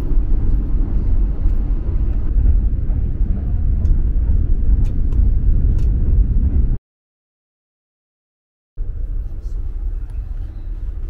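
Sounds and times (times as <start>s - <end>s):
train rumbling: 0.0s - 6.8s, 8.8s - 11.0s.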